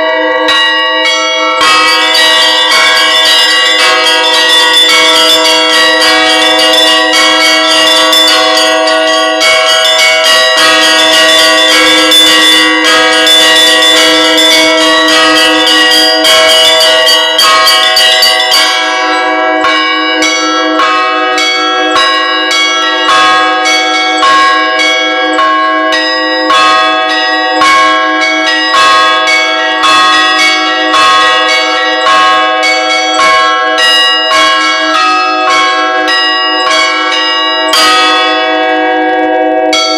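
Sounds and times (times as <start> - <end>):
bells ringing: 0.0 - 39.9.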